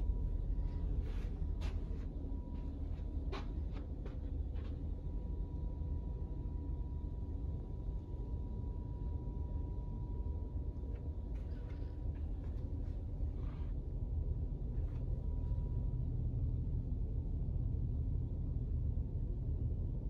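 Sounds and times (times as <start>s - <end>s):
low indoor rumble: 0.0s - 20.0s.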